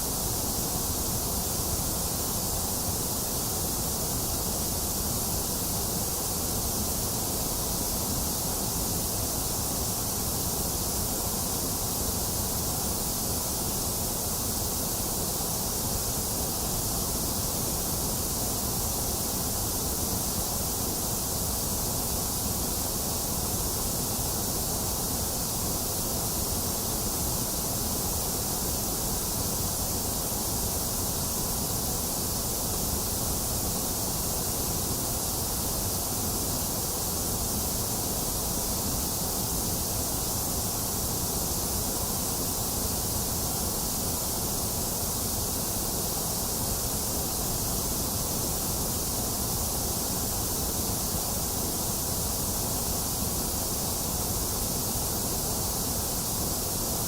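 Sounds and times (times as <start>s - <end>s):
electronic white noise hiss: 0.0s - 57.0s.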